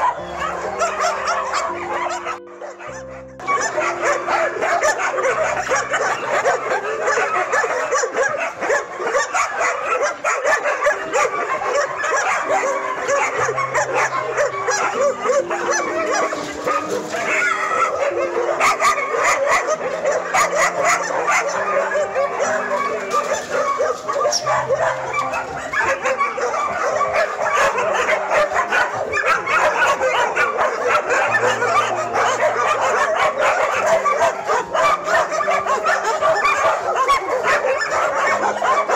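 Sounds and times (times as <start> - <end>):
dogs barking: 0.0 - 38.9.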